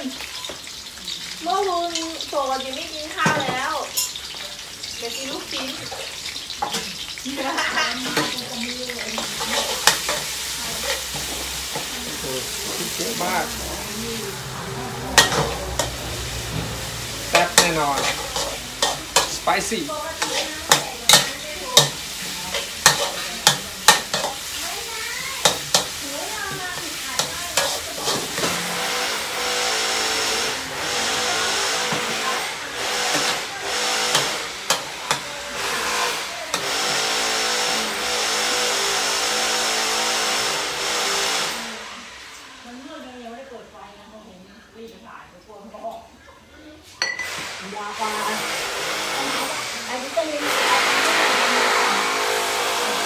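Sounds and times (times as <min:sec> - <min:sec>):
food sizzling in wok: 0:00.0 - 0:44.1, 0:46.6 - 0:53.0
metal spatula scraping wok: 0:01.9 - 0:42.4, 0:47.0 - 0:53.0.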